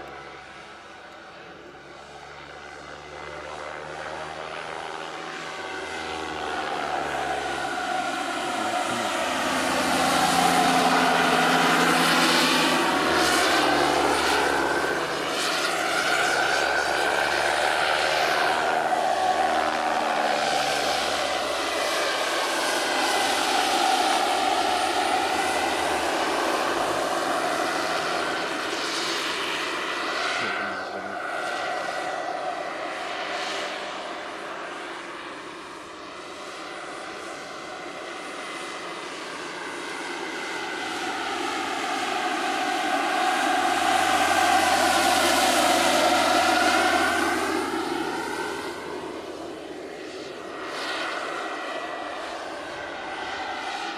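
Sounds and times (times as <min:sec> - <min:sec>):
model helicopter turbine and rotor: 0:00.0 - 0:53.9.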